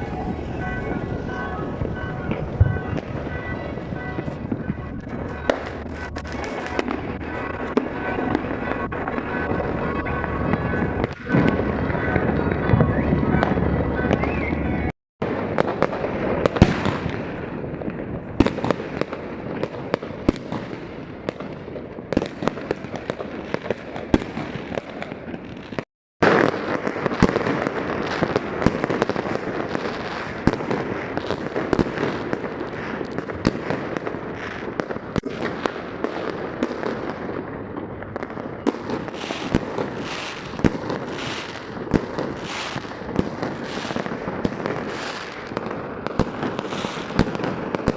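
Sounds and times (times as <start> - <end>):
firecrackers crackling: 0.0 - 47.9.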